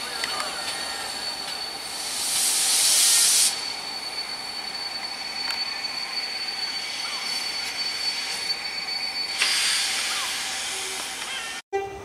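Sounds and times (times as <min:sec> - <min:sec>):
steady high-pitched whine: 0:00.0 - 0:11.6
steam locomotive hissing steam: 0:00.0 - 0:11.6.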